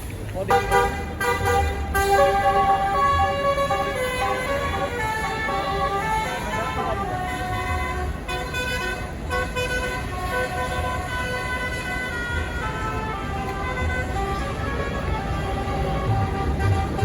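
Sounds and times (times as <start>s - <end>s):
low engine rumble: 0.0s - 17.0s
bus horn playing a melody: 0.5s - 17.0s.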